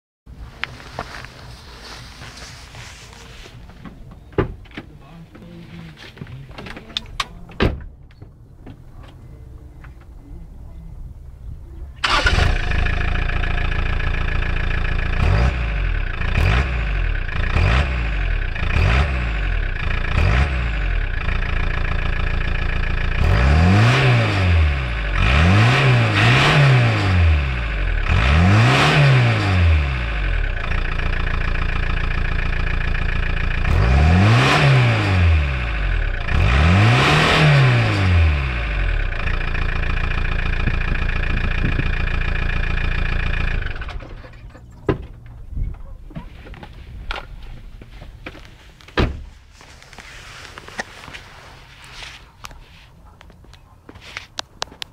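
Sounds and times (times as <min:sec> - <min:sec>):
diesel car engine idling and revving: 0:00.3 - 0:54.9.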